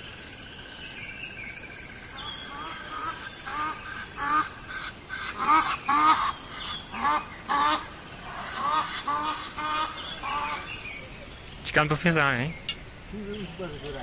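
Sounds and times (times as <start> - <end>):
waterfowl calling: 2.0 - 14.0.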